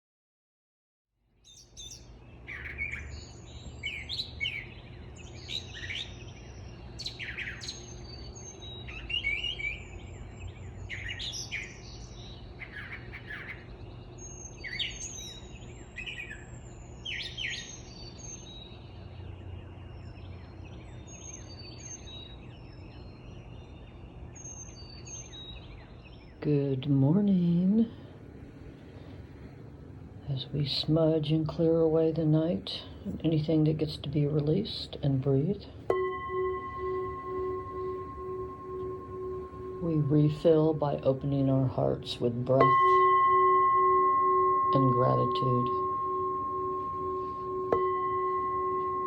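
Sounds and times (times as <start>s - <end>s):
birds chirping: 1.4s - 49.0s
low background hum: 1.5s - 49.0s.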